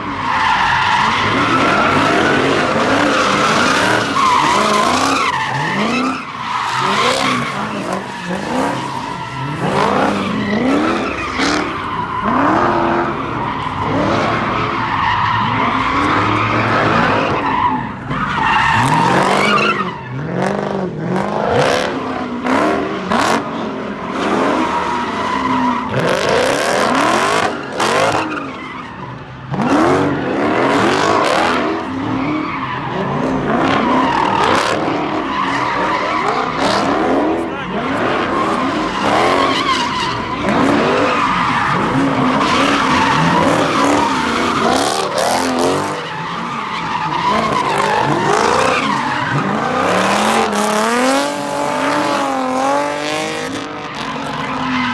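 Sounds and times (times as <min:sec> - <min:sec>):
car engines revving: 0:00.0 - 0:54.9
tires squealing on pavement: 0:00.0 - 0:54.9.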